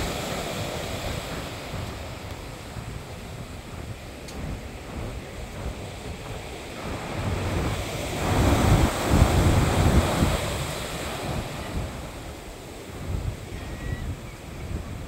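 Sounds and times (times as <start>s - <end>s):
sea waves crashing: 0.0s - 15.0s
wind buffeting microphone: 0.0s - 15.0s.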